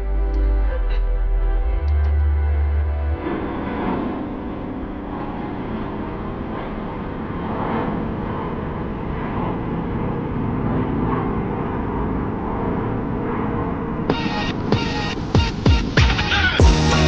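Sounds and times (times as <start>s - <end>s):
jet engines rushing: 3.2s - 17.0s.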